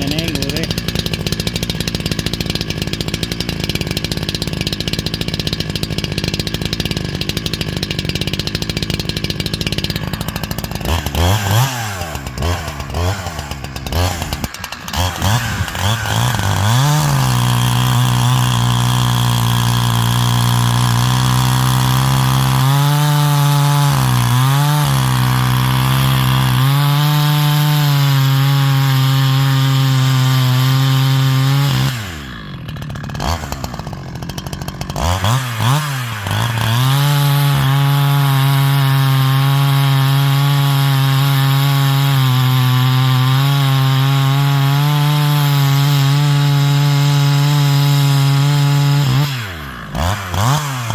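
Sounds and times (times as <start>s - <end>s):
chainsaw cutting log: 0.0s - 50.9s.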